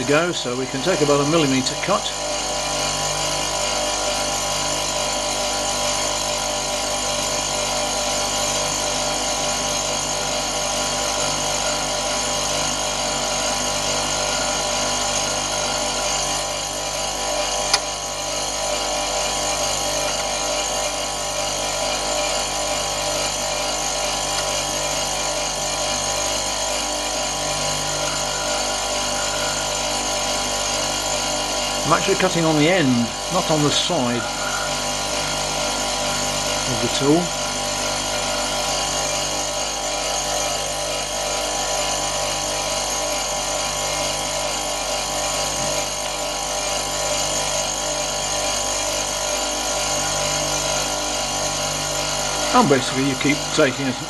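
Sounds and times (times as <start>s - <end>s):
bench grinder motor hum: 0.0s - 54.0s
boring tool cutting wax: 0.0s - 54.0s.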